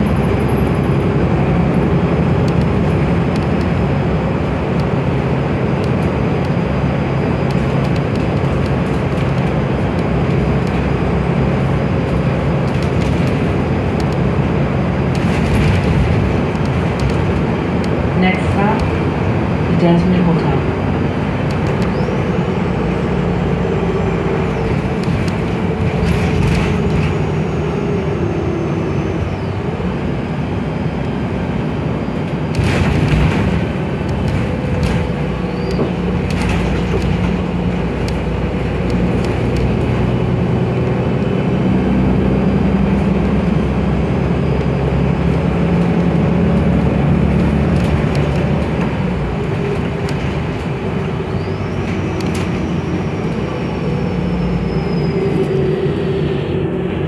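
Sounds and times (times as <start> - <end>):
bus body rattling: 0.0 - 56.0
bus engine drone: 0.0 - 57.0
road noise: 0.0 - 57.0.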